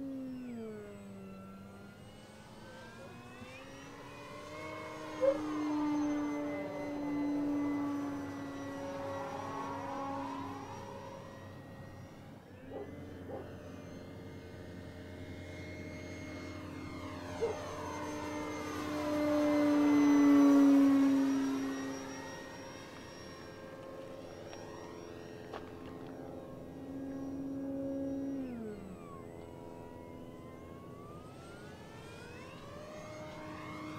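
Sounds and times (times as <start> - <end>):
model plane motor whine: 0.0 - 33.9.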